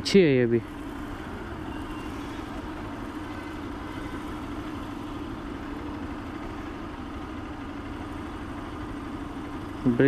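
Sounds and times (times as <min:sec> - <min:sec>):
motorcycle engine idling: 0:00.0 - 0:10.0
other vehicles idling: 0:00.0 - 0:10.0.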